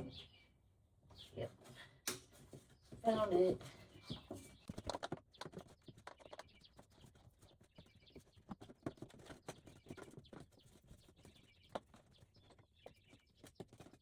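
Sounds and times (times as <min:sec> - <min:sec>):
faint knocking tapping and rattling: 0:02.3 - 0:14.0.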